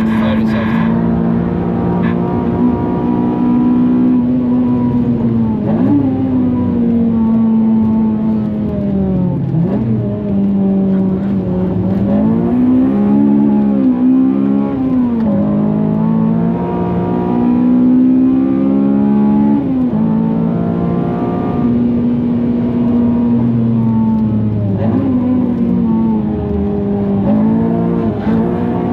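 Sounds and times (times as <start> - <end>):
car engine at high revs: 0.0 - 28.9.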